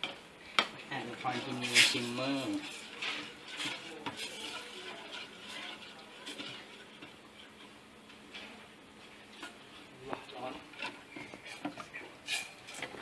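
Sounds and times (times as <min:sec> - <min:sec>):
spoon stirring in metal pot: 0:00.0 - 0:13.0.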